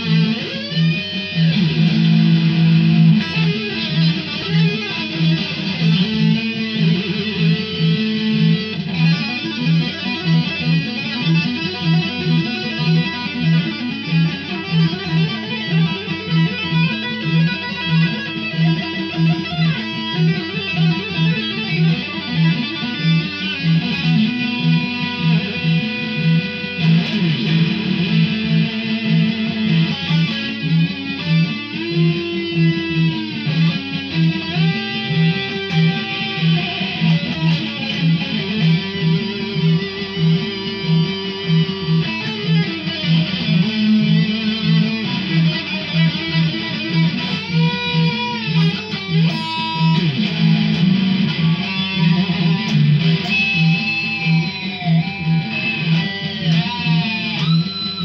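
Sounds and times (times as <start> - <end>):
electric guitar shred solo: 0.0 - 58.0.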